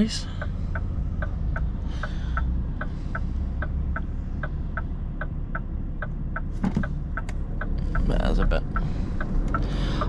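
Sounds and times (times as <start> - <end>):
diesel engine idling: 0.0 - 10.0
turn signal ticking: 0.0 - 10.0.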